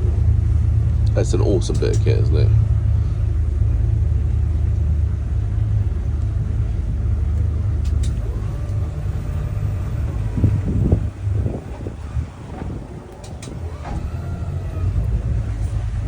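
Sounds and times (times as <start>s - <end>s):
outboard engines rumbling: 0.0s - 16.0s.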